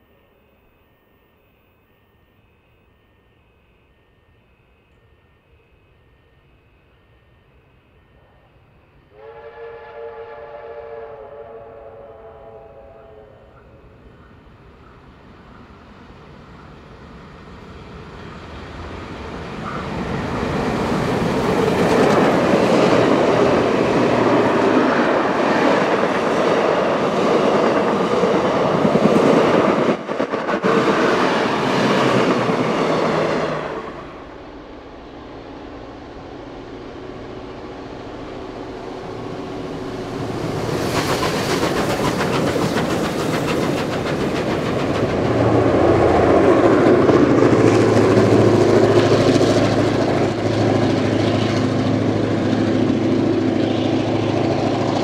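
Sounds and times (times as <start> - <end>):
steam train passing: 2.1 - 55.0.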